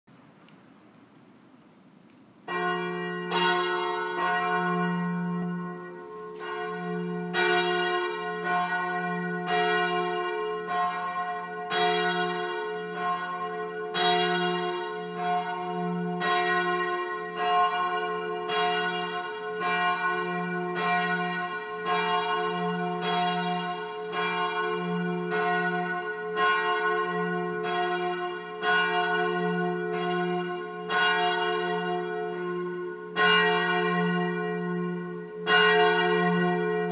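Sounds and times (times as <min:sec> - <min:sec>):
church bells pealing: 0:02.5 - 0:36.9.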